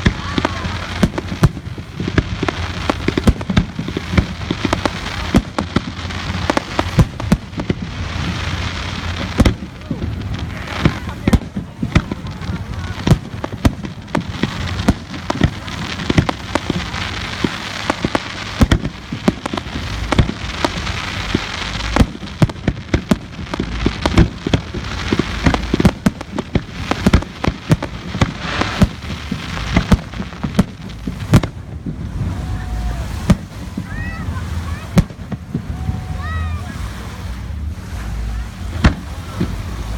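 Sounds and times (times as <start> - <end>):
fireworks bangs: 0.0 - 37.6, 38.2 - 39.9
fireworks crackling hiss: 0.0 - 39.9.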